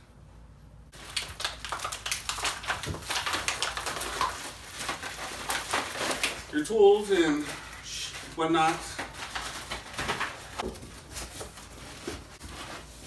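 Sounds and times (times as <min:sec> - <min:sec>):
packaging crinkling and rustling: 0:00.9 - 0:13.0.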